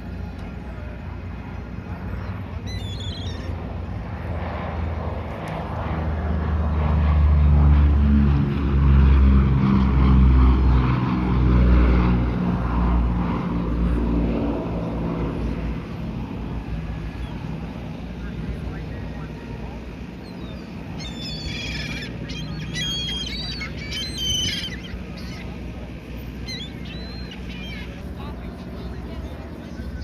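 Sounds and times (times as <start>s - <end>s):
propeller plane engines droning: 0.0s - 30.0s.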